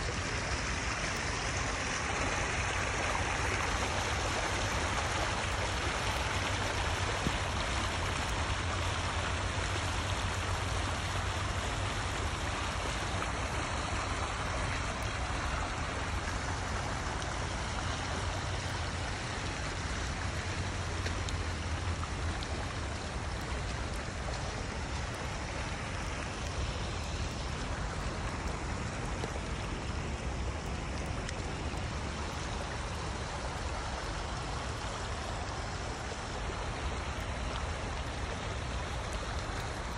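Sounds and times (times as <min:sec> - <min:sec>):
water rushing in shallow stream: 0:00.0 - 0:39.9.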